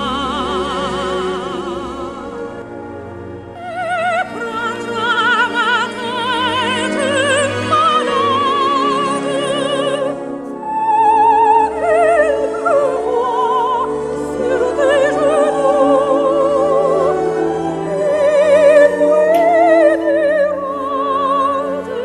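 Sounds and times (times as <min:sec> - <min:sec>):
instrumental accompaniment: 0:00.0 - 0:22.0
operatic soprano singing: 0:00.0 - 0:22.0.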